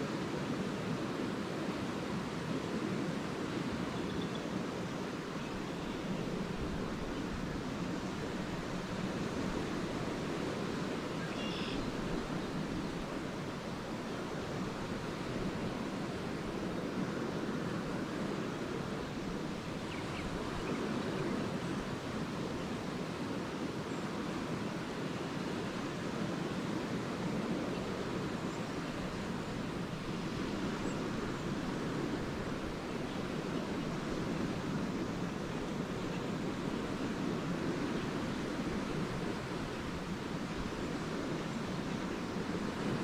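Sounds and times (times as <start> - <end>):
lake waves washing onto beach: 0.0 - 43.0.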